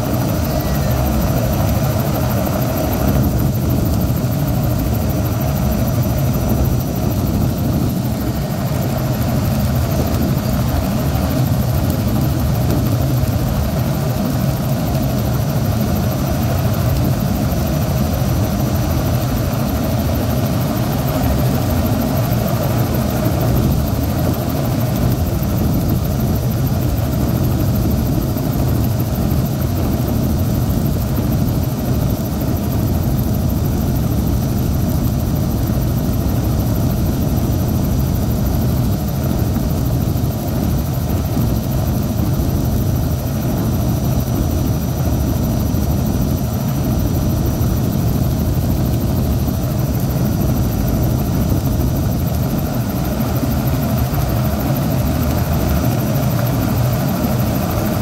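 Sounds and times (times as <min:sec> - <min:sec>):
faint high whine: 0:00.0 - 0:58.0
helicopter low drone: 0:00.0 - 0:58.0.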